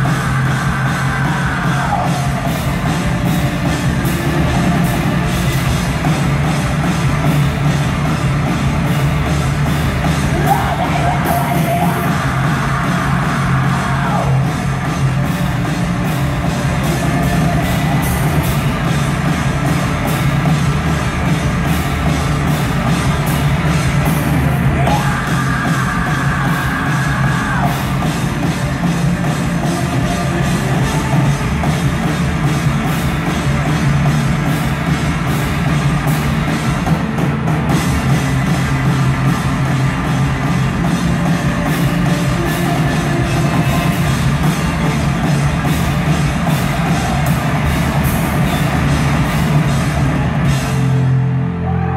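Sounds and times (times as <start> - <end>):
rock band playing heavy music: 0.0 - 51.9.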